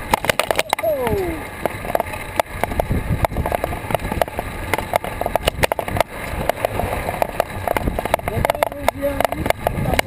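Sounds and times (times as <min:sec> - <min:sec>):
bike and camera mount rattling: 0:00.0 - 0:10.0
road noise: 0:00.0 - 0:10.0
wind noise: 0:00.0 - 0:10.0.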